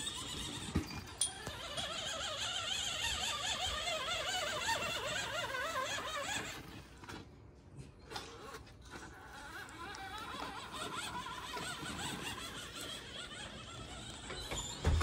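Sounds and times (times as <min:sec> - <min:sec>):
toy truck electric motor whining: 0:00.0 - 0:07.3, 0:08.0 - 0:15.0.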